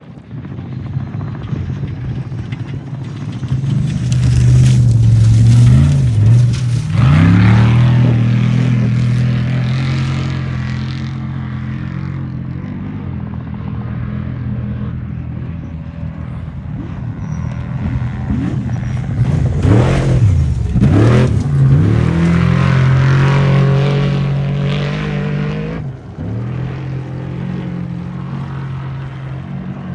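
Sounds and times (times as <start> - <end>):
race truck engines revving: 1.4 - 29.9.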